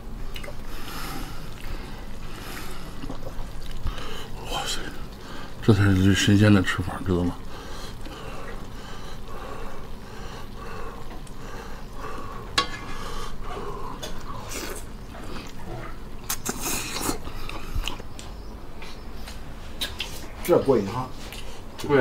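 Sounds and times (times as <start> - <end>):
man chewing meat: 0.0 - 5.6, 7.4 - 20.5, 21.2 - 21.8.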